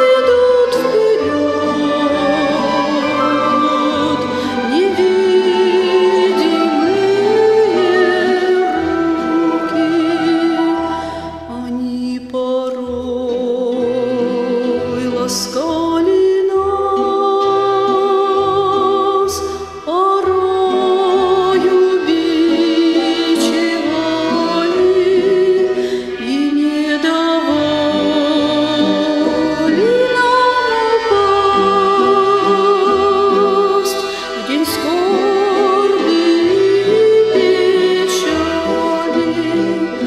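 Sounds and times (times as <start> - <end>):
person singing with vibrato: 0.0 - 40.0.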